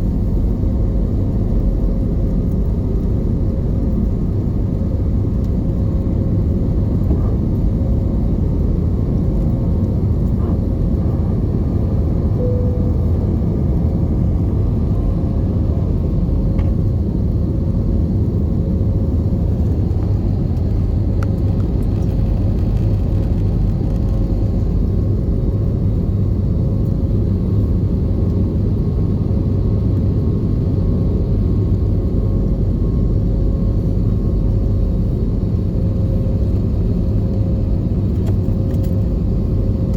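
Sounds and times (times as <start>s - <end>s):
constant cabin hum: 0.0s - 39.9s
jet engine rumble: 0.0s - 39.9s.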